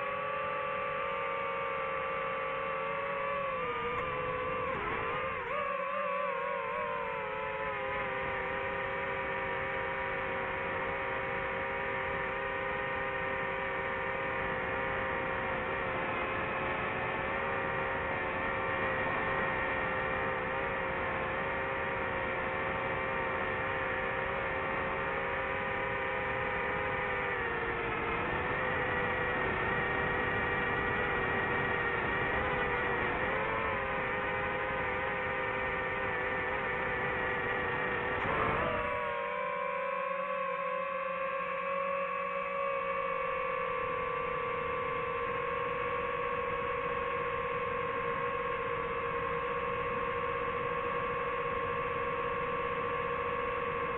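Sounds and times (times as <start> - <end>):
drone propellers whining: 0.0 - 53.9.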